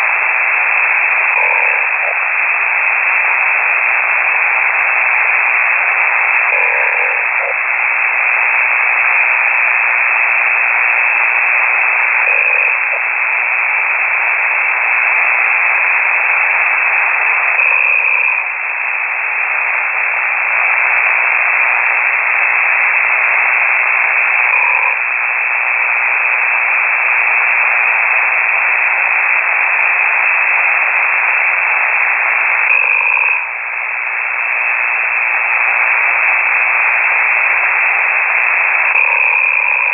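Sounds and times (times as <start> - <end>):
faint snoring over radio: 0.0 - 39.9
radio static hiss: 0.0 - 39.9.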